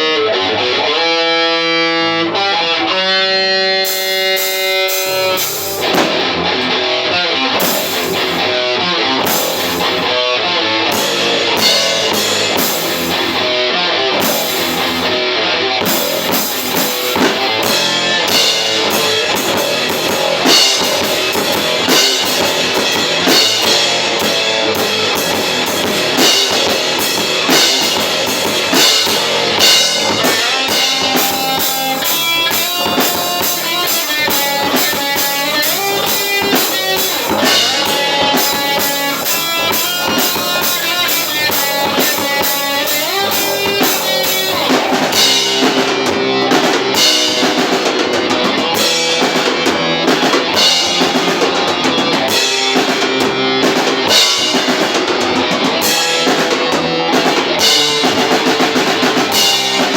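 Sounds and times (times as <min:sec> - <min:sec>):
electric guitar riffs: 0:00.0 - 0:59.9
drum kit pounding: 0:03.7 - 0:10.2, 0:10.8 - 0:59.9.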